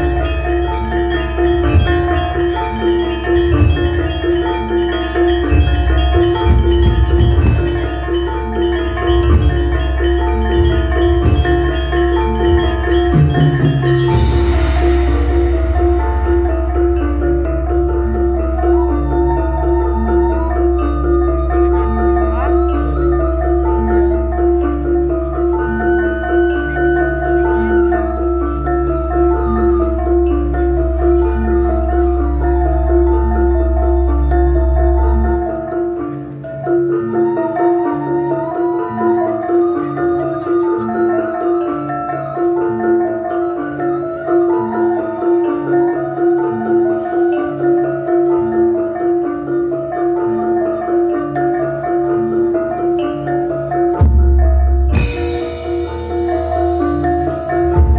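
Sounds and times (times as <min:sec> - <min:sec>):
gamelan ensemble playing: 0:00.0 - 0:57.9.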